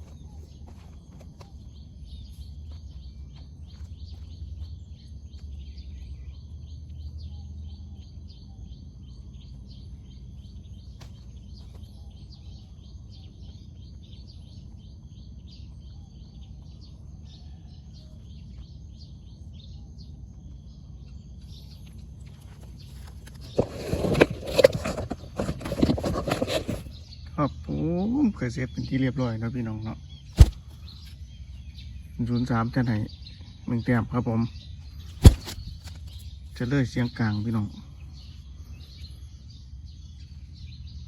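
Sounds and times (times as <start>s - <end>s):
birds chirping: 0.0s - 17.0s, 20.5s - 41.0s.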